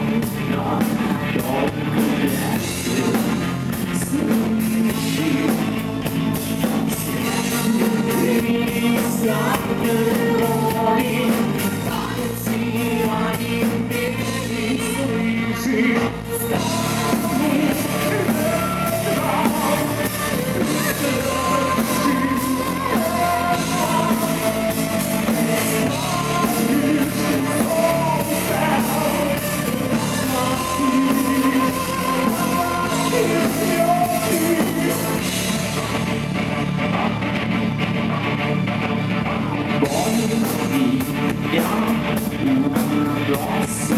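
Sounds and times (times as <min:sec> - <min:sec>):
lead vocalist singing: 0:00.0 - 0:37.3, 0:39.8 - 0:43.9
live rock band playing: 0:00.0 - 0:43.9.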